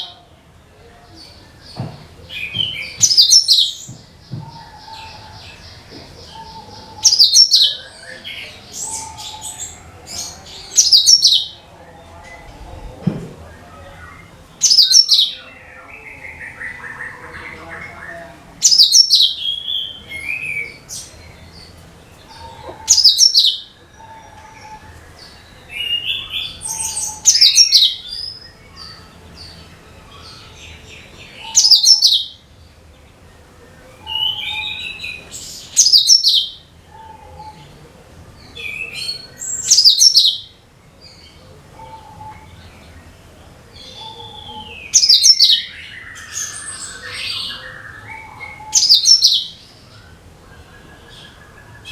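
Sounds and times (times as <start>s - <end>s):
bird chirping song: 0.0s - 51.9s.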